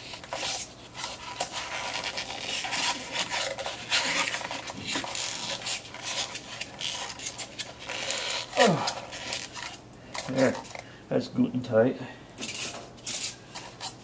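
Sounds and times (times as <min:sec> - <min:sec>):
rubbing and scraping by hand: 0:00.0 - 0:10.8, 0:12.4 - 0:14.0
faint steady hum: 0:00.0 - 0:14.0.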